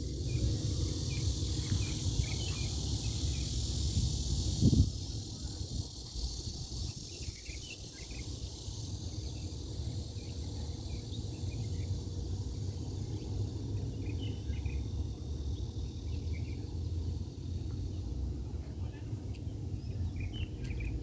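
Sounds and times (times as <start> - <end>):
low rumble with high hiss: 0.0 - 21.0.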